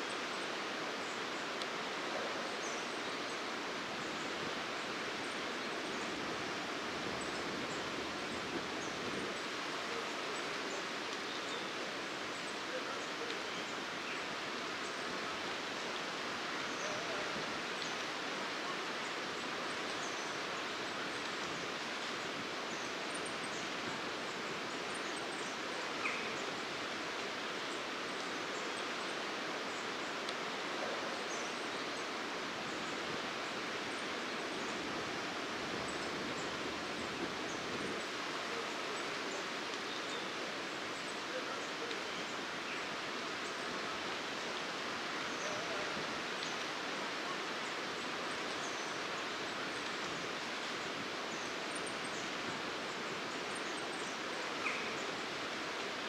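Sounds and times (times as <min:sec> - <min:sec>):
outdoor hiss: 0:00.0 - 0:56.0.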